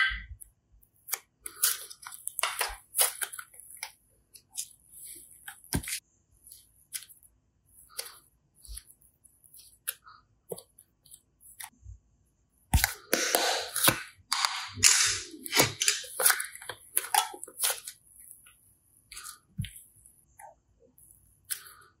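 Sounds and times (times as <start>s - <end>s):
clay crackling and squelching: 0.0s - 22.0s.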